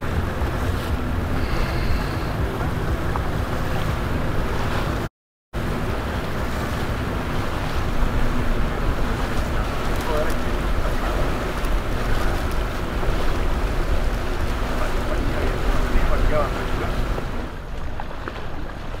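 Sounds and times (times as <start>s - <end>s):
boat engines rumbling: 0.0s - 19.0s
water wash: 0.0s - 19.0s
wind buffeting microphone: 0.0s - 19.0s.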